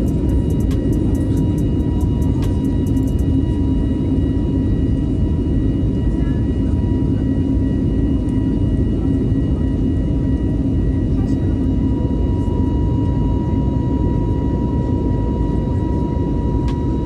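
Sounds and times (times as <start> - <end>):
jet airliner cabin drone: 0.0 - 17.0.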